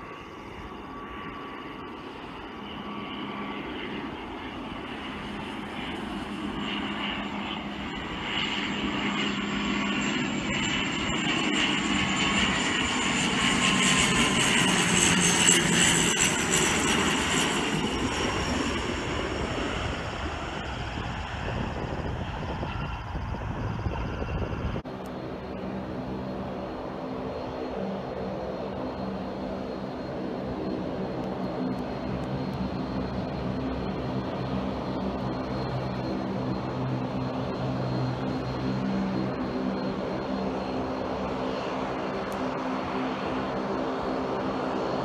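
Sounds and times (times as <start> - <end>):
turboprop airliner flying past: 0.0 - 45.0.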